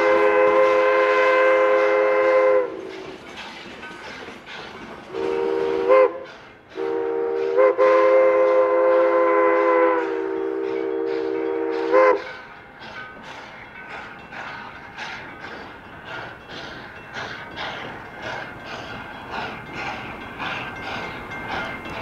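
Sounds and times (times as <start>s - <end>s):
steam locomotive chime whistle: 0.0s - 22.0s
train running past: 0.0s - 22.0s.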